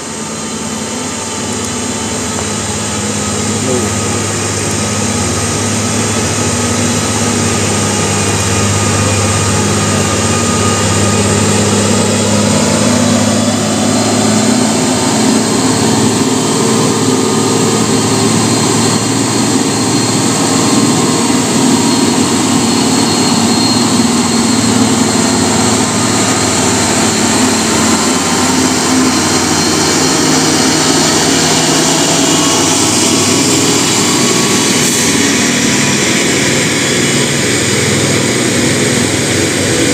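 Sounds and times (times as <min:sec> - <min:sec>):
truck diesel engine labouring: 0:00.0 - 0:39.9.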